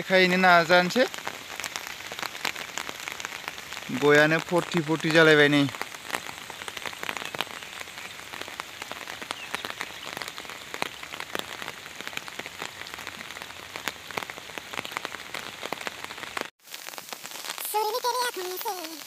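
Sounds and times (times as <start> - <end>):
rain falling on water and plants: 0.0 - 19.0.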